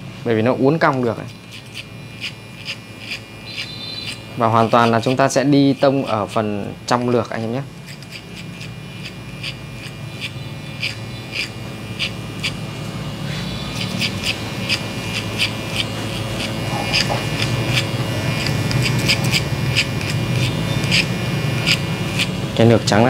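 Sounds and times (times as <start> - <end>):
hair clipper running: 0.6 - 23.0.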